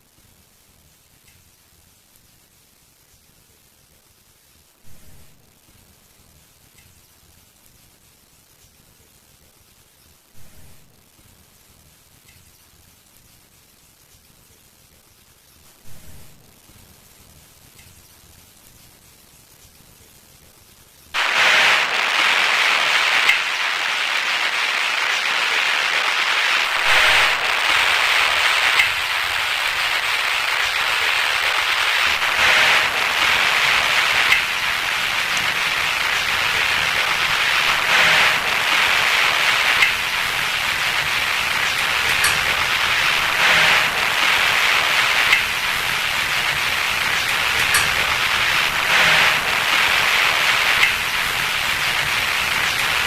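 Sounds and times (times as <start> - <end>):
faint crackles: 0.0 - 53.0
loud static hiss: 0.0 - 53.0.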